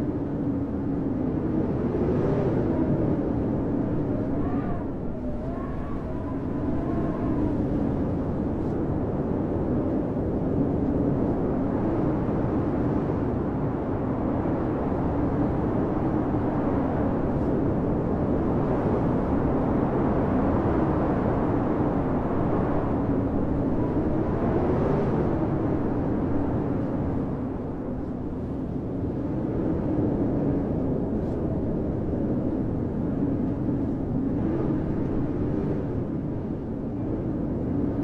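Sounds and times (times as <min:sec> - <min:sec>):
blizzard wind howling: 0:00.0 - 0:38.0
wind whistling: 0:00.0 - 0:38.0.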